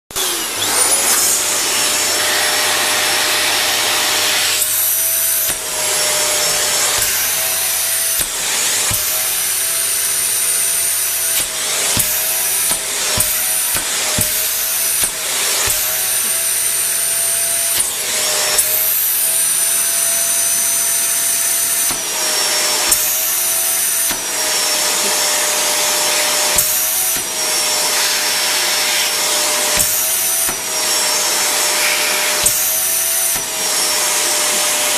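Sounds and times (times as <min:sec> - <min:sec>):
vacuum cleaner running: 0:00.1 - 0:34.9.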